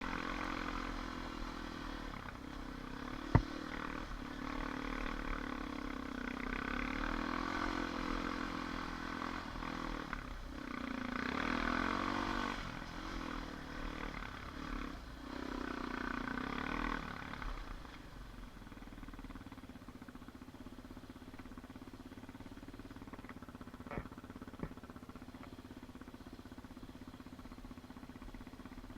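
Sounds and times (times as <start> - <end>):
atv engine revving: 0.0 - 19.6, 21.2 - 28.9.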